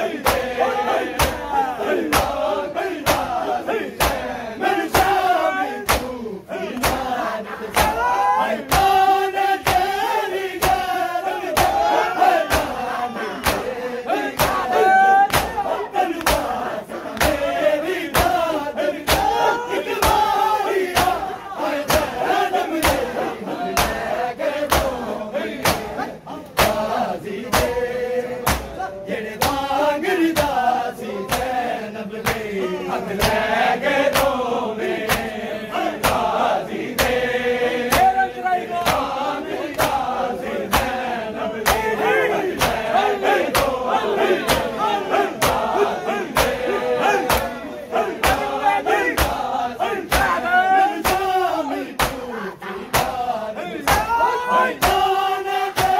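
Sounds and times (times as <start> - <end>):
men chanting a lament: 0.0 - 55.9
men slapping their chests: 0.1 - 55.9.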